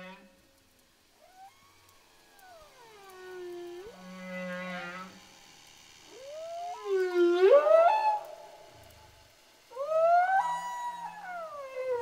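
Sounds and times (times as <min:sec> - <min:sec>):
whale song moaning calls: 0:01.2 - 0:05.2, 0:06.1 - 0:12.0.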